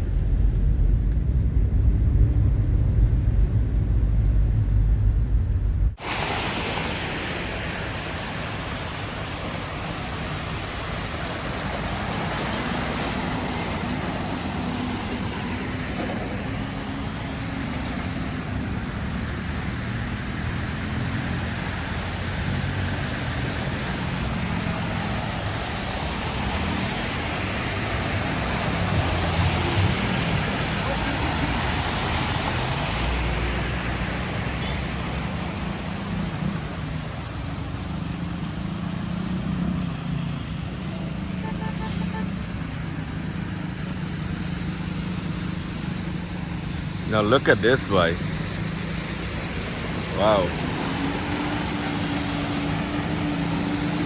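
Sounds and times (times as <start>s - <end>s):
car driving rumble: 0.0s - 54.0s
heavy rain: 0.0s - 54.0s
tyres on wet road: 0.0s - 54.0s.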